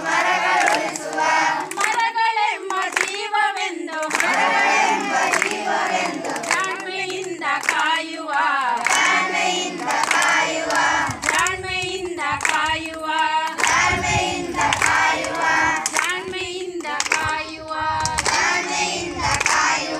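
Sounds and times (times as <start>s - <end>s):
group of voices singing: 0.0s - 19.9s
sharp hand claps: 0.2s - 3.3s, 3.9s - 17.4s, 18.0s - 19.9s.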